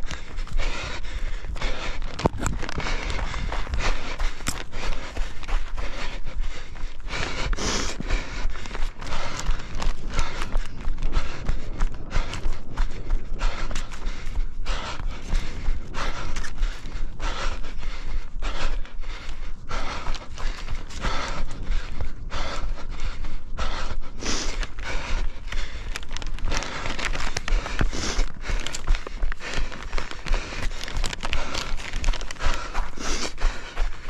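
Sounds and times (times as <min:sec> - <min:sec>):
heavy rhythmic breathing: 0:00.0 - 0:34.0
running footsteps: 0:00.0 - 0:34.0.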